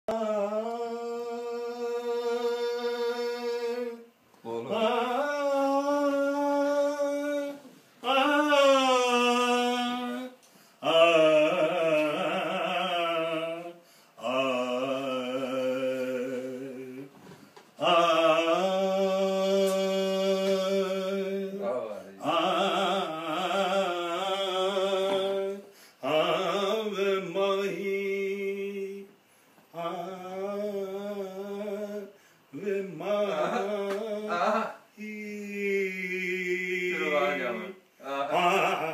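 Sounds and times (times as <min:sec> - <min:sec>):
person singing a chant: 0:00.1 - 0:17.1, 0:17.8 - 0:21.6, 0:22.2 - 0:29.1, 0:29.7 - 0:38.9.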